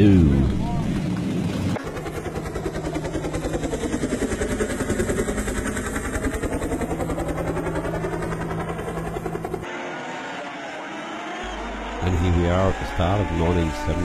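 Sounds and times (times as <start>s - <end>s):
helicopter engine hum: 0.0s - 14.0s
helicopter rotors chopping: 0.0s - 14.0s.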